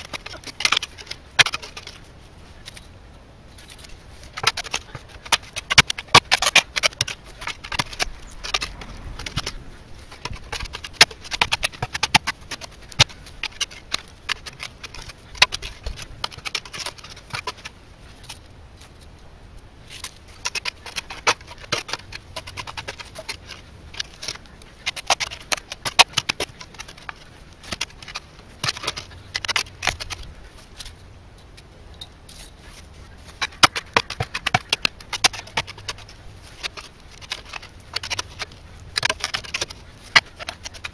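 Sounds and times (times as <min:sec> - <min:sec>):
digging tools scraping stony soil: 0:00.0 - 0:19.1, 0:19.8 - 0:31.1, 0:32.0 - 0:40.9.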